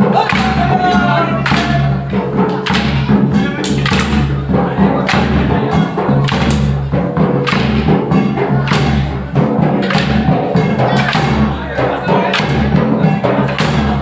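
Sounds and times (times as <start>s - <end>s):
dhol drum beating: 0.0s - 14.0s.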